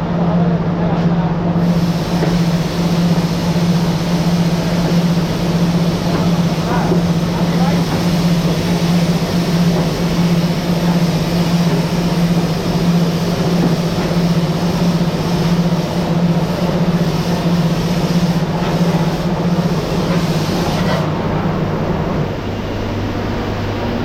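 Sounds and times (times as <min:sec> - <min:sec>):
low machinery hum: 0:00.0 - 0:24.0.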